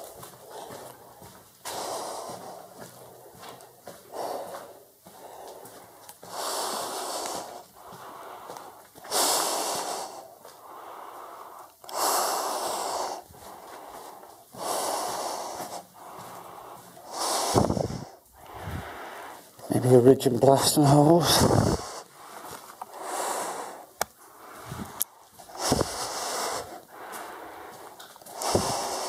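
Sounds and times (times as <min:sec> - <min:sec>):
person breathing heavily: 0:00.0 - 0:29.0.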